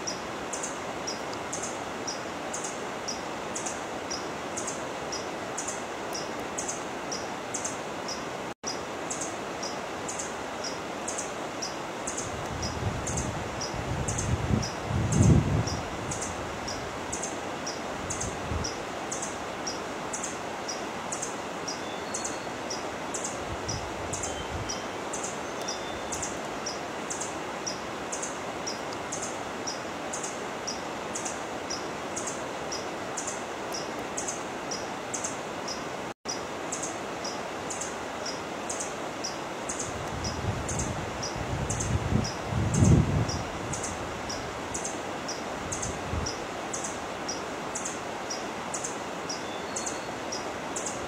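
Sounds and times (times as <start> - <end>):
rushing background hiss: 0.0 - 51.0
small bird chirping: 0.0 - 51.0.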